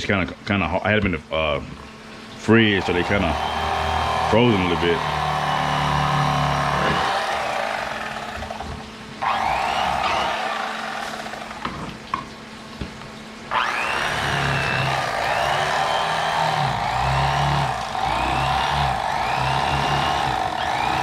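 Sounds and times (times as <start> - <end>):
motor hum: 1.7 - 21.0.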